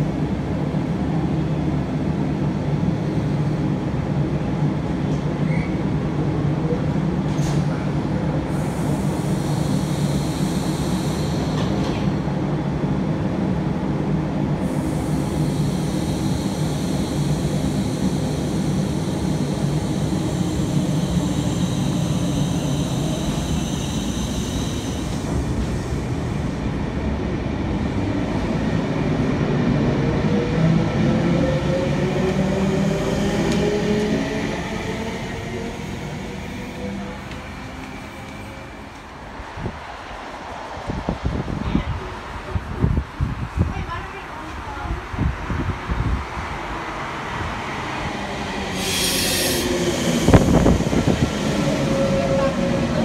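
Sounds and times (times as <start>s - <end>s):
train equipment hum: 7.1s - 43.6s, 44.4s - 53.0s.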